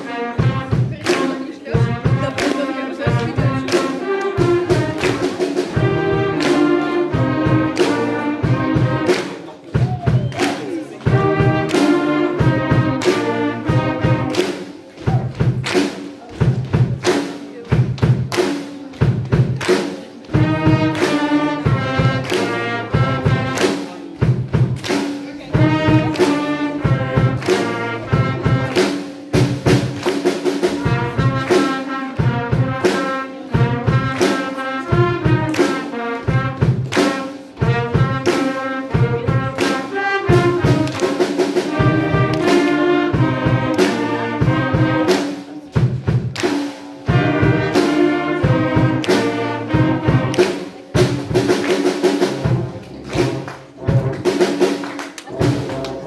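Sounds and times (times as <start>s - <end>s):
steady drum beat: 0.0s - 56.0s
wind band playing: 0.0s - 56.0s.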